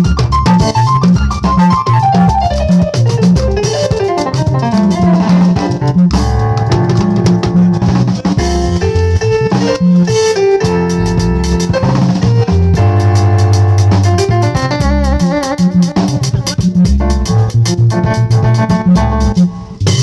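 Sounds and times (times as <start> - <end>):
band with guitar bass and drums: 0.0 - 20.0.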